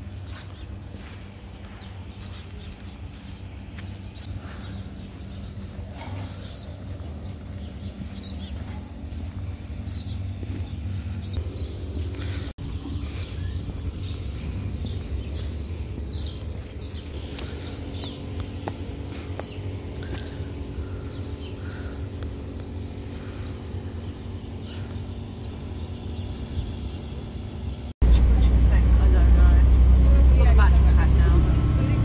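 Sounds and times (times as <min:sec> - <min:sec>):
faint hum: 0:00.0 - 0:32.0
low outdoor rumble: 0:00.0 - 0:32.0
small birds chirping: 0:00.0 - 0:32.0.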